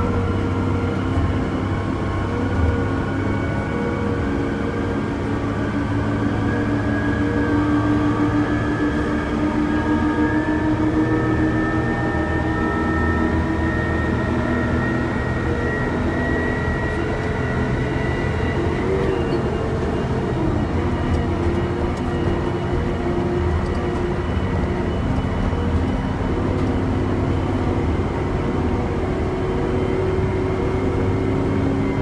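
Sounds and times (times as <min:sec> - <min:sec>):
diesel engine droning with whine: 0:00.0 - 0:32.0.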